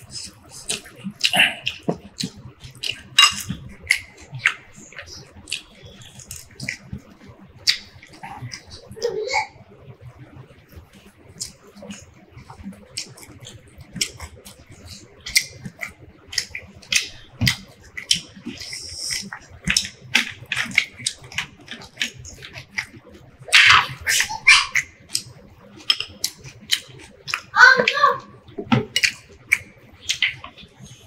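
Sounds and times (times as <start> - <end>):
wet mouth clicks and chewing: 0.1 - 9.0, 10.6 - 27.5, 28.4 - 31.0.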